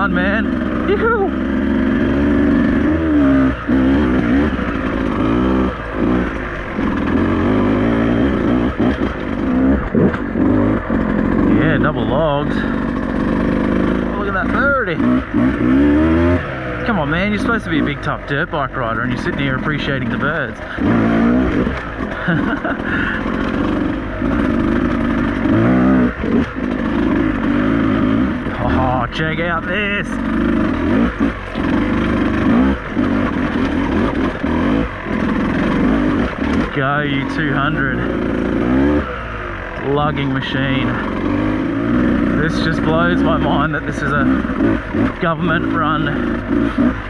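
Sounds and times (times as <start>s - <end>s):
two-stroke motorbike engine revving: 0.0s - 47.0s.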